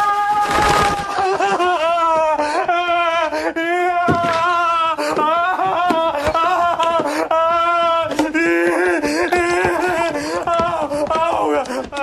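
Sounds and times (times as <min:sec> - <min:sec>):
man shrieking and whimpering: 0:00.0 - 0:12.0.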